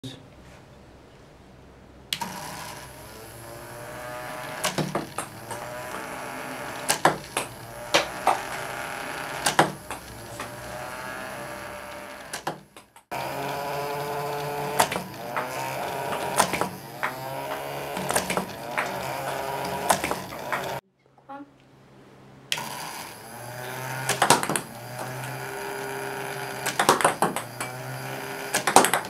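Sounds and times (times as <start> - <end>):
small motors whining: 2.2 - 20.8, 22.5 - 29.0.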